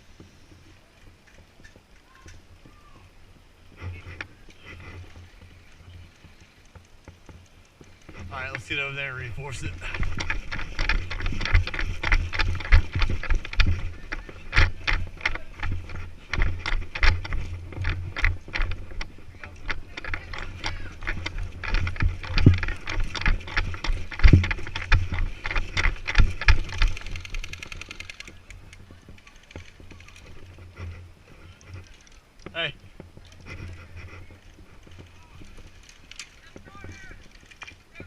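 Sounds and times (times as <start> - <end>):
footsteps: 0.0 - 38.0
gear rattling: 3.6 - 38.0.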